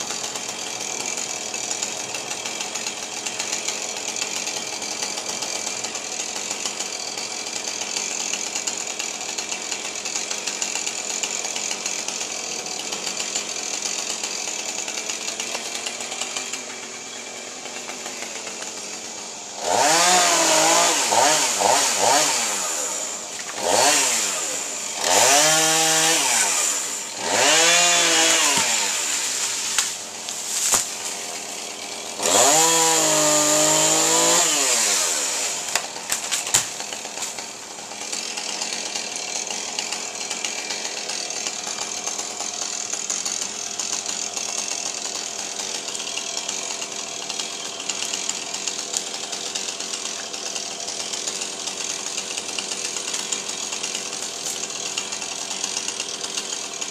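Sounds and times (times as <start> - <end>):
chainsaw idling and revving: 0.0 - 56.9.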